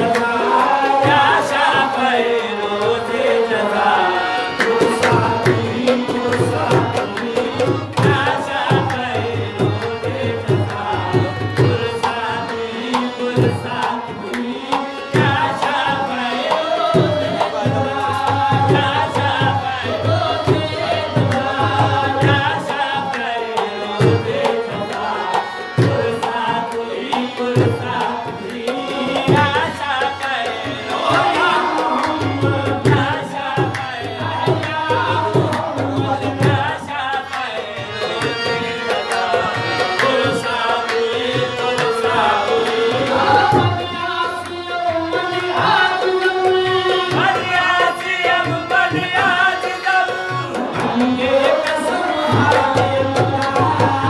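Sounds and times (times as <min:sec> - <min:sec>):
harmoniums playing chords: 0:00.0 - 0:54.0
men singing: 0:00.0 - 0:54.0.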